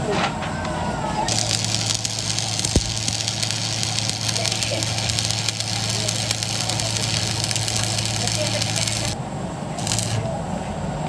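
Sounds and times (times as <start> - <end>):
machine humming: 0.8 - 10.6.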